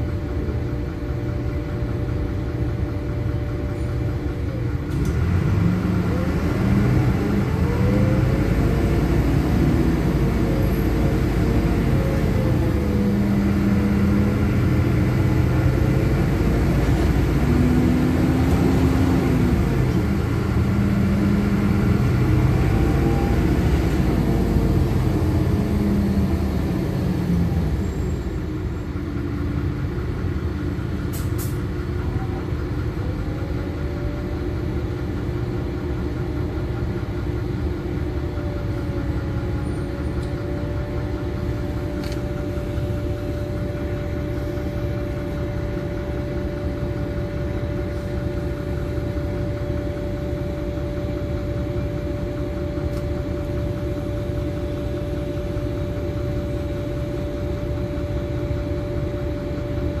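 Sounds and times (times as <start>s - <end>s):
bus diesel engine rumbling: 0.0s - 60.0s.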